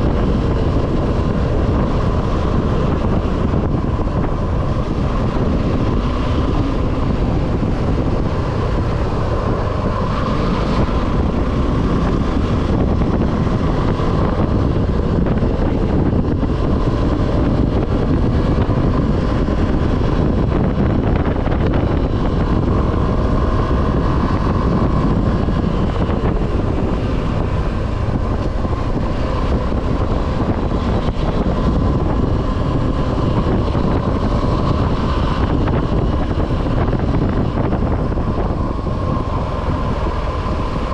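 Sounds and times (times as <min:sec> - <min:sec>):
motorcycle engine cruising: 0:00.0 - 0:40.9
wind on microphone: 0:00.0 - 0:40.9.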